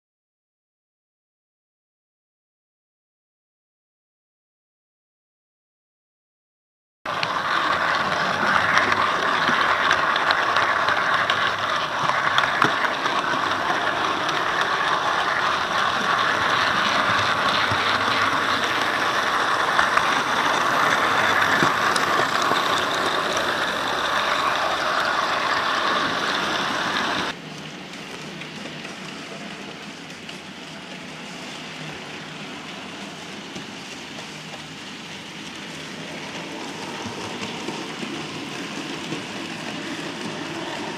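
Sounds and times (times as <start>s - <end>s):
model train running on track: 7.1s - 40.9s.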